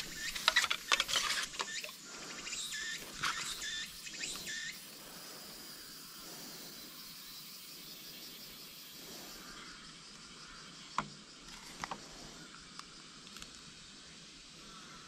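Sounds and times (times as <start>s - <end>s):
faint steady high hiss: 0.0s - 15.0s.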